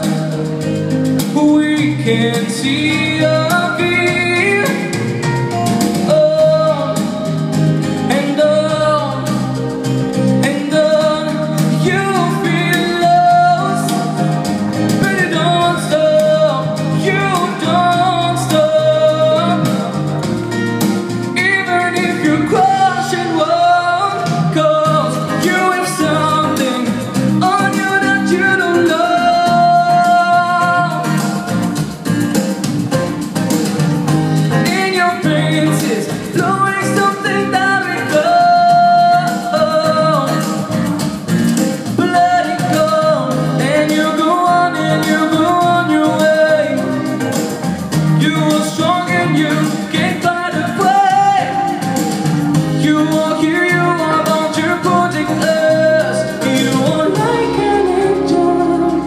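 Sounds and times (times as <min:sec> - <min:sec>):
man singing into a microphone: 0:00.0 - 0:32.2, 0:34.2 - 0:59.0
instrumental accompaniment: 0:00.0 - 0:59.0.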